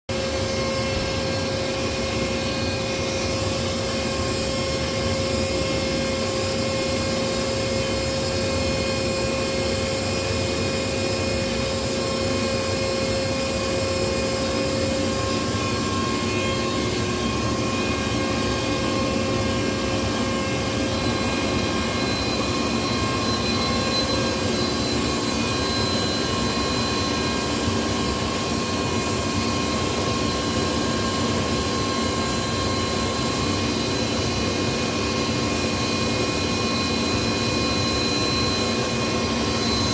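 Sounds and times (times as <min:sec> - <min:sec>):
lathe mechanical drone: 0:00.1 - 0:39.9
machine whining tones: 0:00.1 - 0:39.9.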